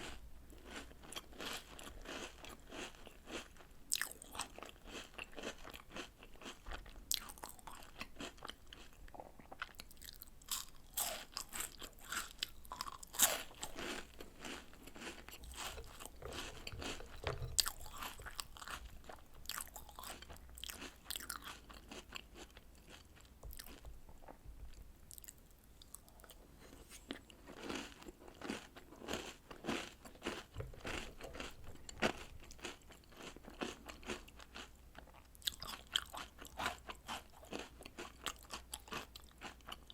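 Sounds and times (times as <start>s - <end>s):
person crunching and chewing food: 0.0s - 24.4s, 25.0s - 39.9s.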